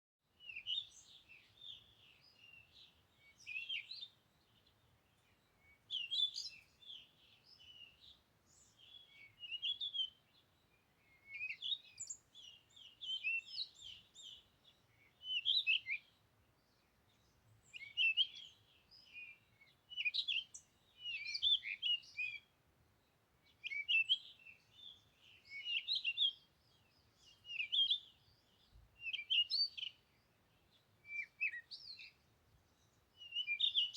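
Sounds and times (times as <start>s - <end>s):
small birds chirping and twittering: 0.2s - 33.9s.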